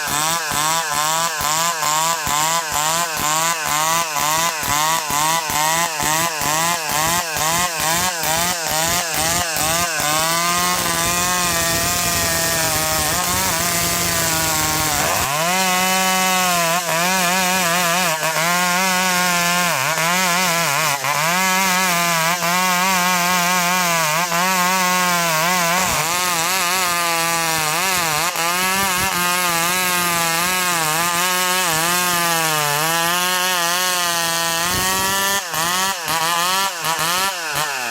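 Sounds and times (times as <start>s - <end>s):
chainsaw cutting hardwood: 0.0s - 37.9s.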